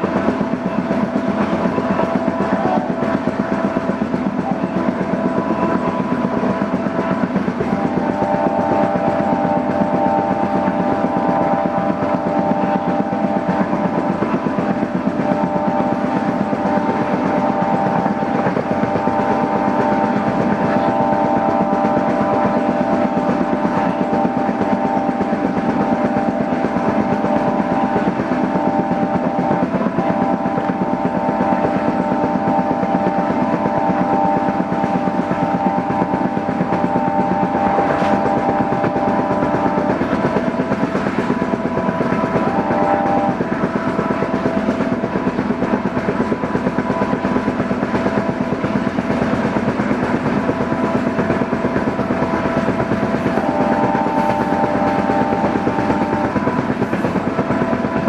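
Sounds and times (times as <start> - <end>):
diesel train running: 0.0 - 58.0.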